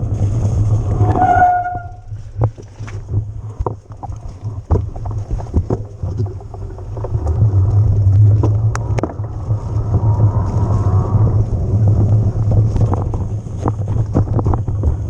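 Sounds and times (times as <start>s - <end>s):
bike knocks and rattles: 0.0s - 15.0s
wind rumble on microphone: 0.0s - 15.0s.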